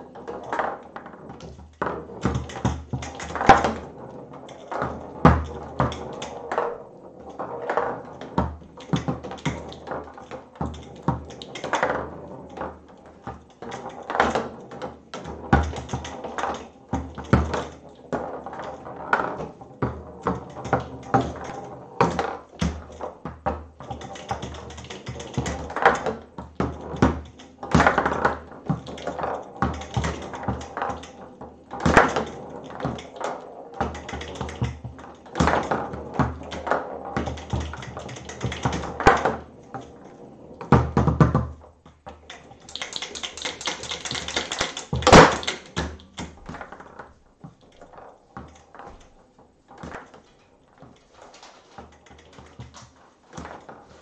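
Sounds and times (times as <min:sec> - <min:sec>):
foosball ball clacking: 0:00.0 - 0:54.0
foosball rods knocking: 0:00.0 - 0:54.0.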